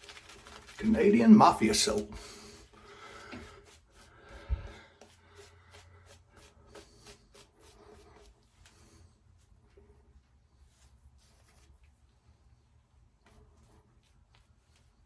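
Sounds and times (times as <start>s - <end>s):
shaving brush rubbing soap: 0.0s - 12.1s.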